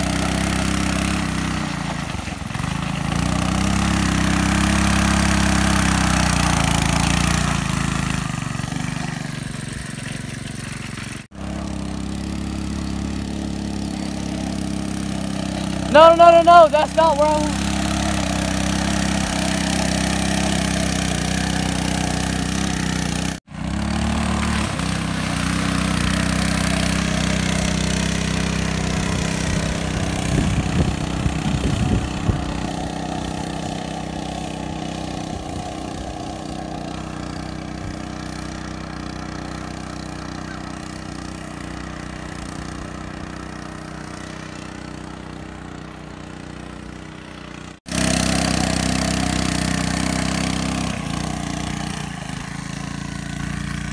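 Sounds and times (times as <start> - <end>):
splashing through muddy water: 0.0 - 16.0, 17.5 - 53.9
go-kart engine running: 0.0 - 53.9.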